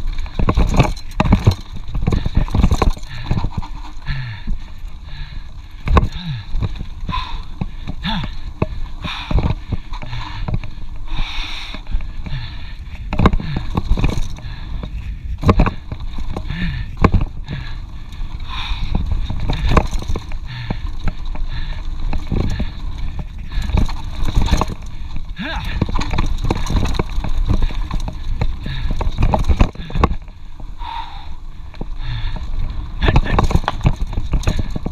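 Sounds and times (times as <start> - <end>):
bike knocks and rattles: 0.0 - 34.9
wind and tyre rumble: 0.0 - 34.9.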